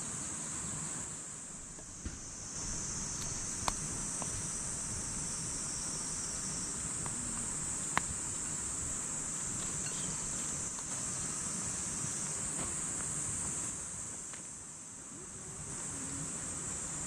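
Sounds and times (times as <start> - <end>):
insects chirring chorus: 0.0 - 17.0.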